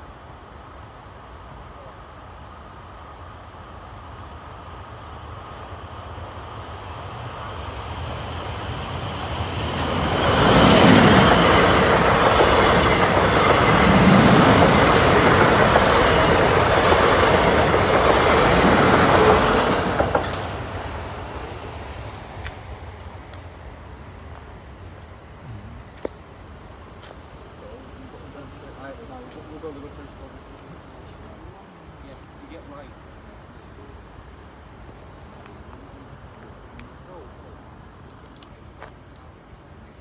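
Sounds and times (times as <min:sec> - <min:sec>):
electric train passing: 0:00.0 - 0:40.0.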